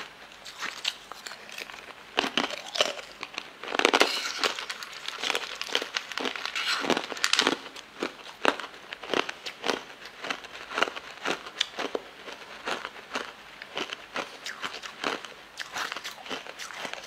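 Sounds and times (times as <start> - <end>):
chewing jelly candies: 0.4 - 17.0.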